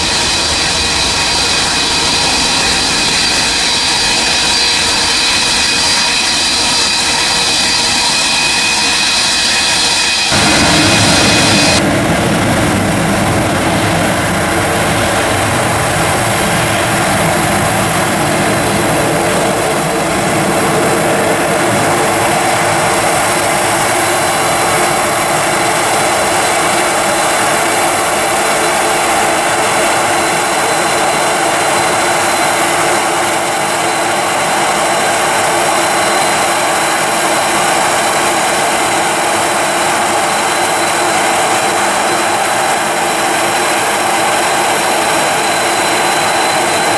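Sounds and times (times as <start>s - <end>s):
jet engines rushing: 0.0s - 46.9s
thin jet engine whine: 0.0s - 46.9s.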